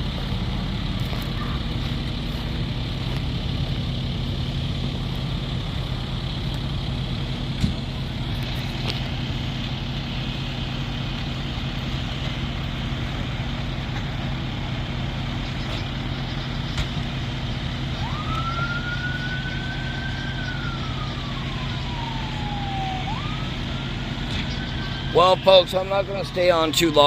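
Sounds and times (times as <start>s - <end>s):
emergency vehicle siren wailing: 0.0s - 27.0s
heavy vehicle engine running: 0.0s - 27.0s.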